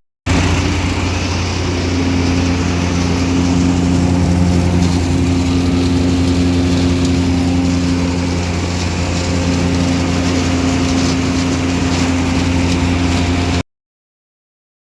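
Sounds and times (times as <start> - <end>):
tractor engine droning: 0.3 - 13.6.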